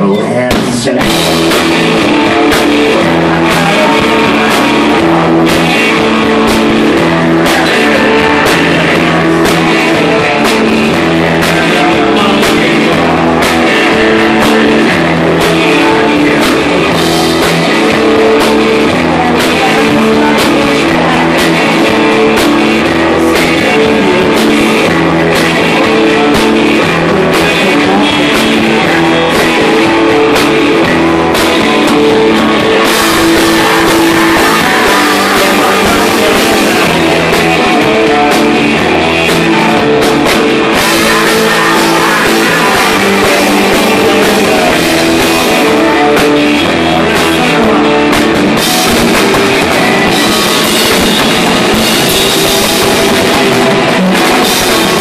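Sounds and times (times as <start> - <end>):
drum kit: 0.0 - 55.0
electric guitars: 0.0 - 55.0
man singing: 0.0 - 55.0.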